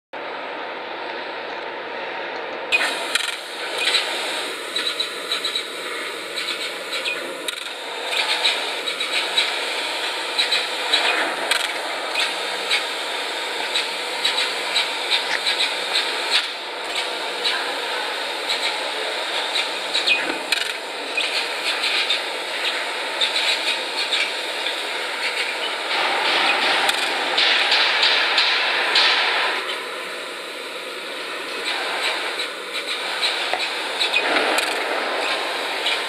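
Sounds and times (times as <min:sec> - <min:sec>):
hiss of cutting gas jet: 0:02.7 - 0:36.0.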